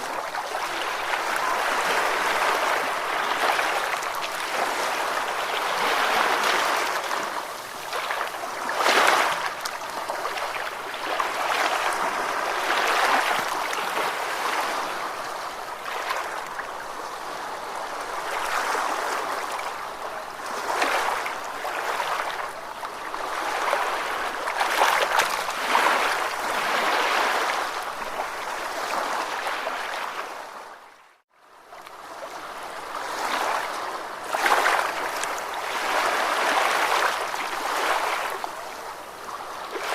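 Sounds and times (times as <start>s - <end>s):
ocean waves breaking: 0.0s - 30.8s, 32.0s - 39.9s.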